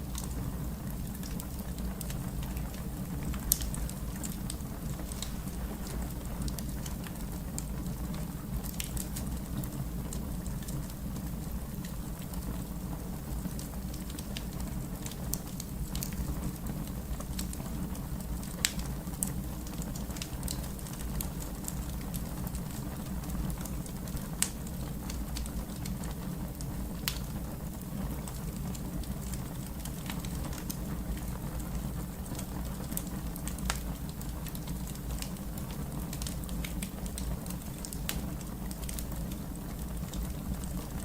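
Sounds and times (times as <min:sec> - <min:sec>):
fire crackling: 0:00.0 - 0:41.0
fire popping and snapping: 0:00.0 - 0:41.0.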